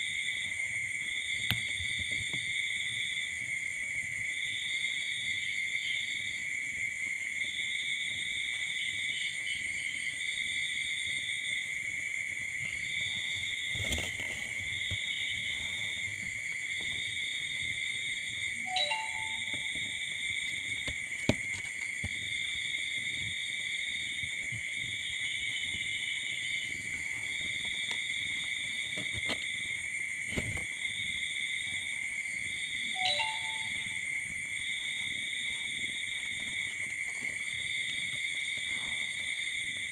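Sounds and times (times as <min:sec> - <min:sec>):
insects chirring: 0:00.0 - 0:39.9
pulsing high insect trill: 0:02.5 - 0:39.9.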